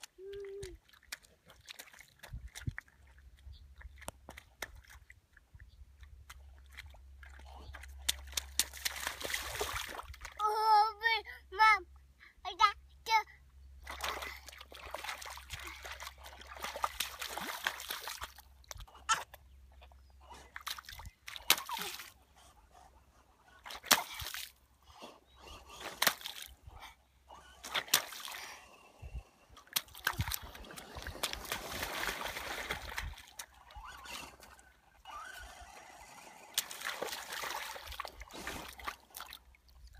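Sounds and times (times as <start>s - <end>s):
child splashing in muddy puddle: 0.0s - 10.5s, 13.8s - 22.2s, 23.6s - 39.9s.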